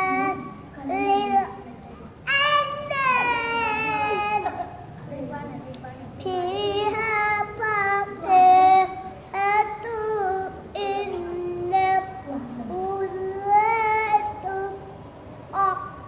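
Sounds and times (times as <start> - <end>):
boy chanting melodic recitation: 0.0 - 16.0.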